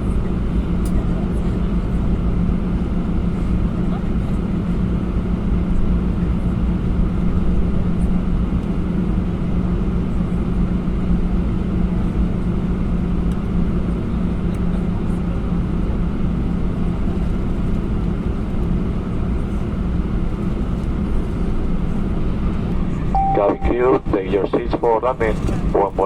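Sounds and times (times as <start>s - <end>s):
jet engine drone in cabin: 0.0s - 26.0s.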